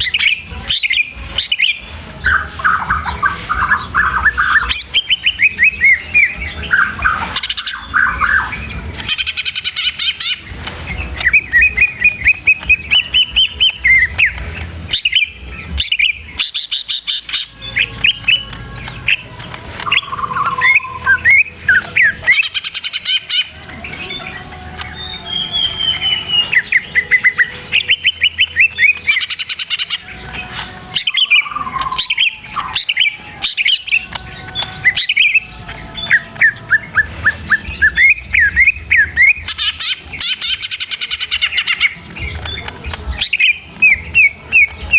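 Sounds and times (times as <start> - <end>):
young bird chirping: 0.0 - 44.9.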